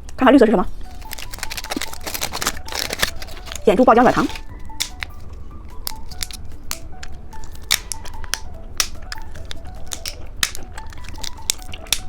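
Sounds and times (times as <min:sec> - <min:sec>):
light plucked background music: 0:00.0 - 0:12.0
plastic candy packaging crackling: 0:00.0 - 0:12.0.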